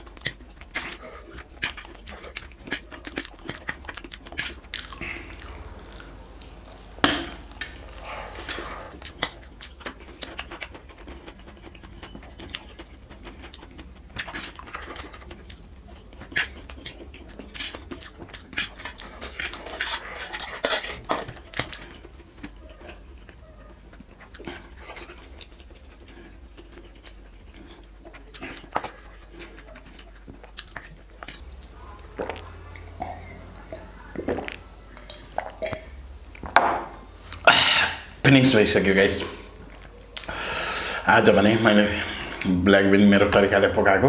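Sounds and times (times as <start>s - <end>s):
chewing and mouth sounds: 0.0s - 36.5s, 39.2s - 42.6s.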